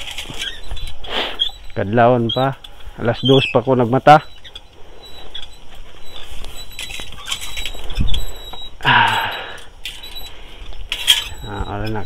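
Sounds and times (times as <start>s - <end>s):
charcoal fire crackling: 0.0s - 12.0s.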